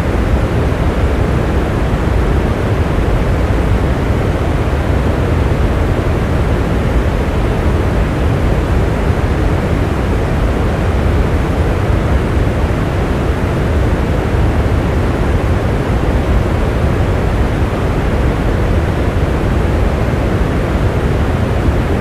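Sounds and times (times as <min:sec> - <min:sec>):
steady heavy rain: 0:00.0 - 0:22.0.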